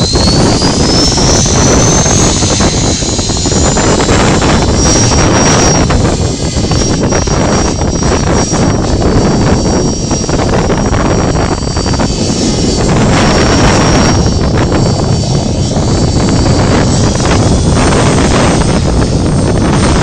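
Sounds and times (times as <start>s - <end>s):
model helicopter whine: 0.0s - 20.0s
wind buffeting microphone: 0.0s - 20.0s.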